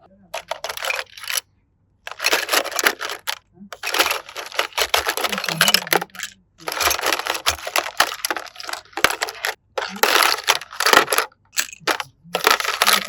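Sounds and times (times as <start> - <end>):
packaging crackling: 0.4 - 1.4, 2.1 - 13.0.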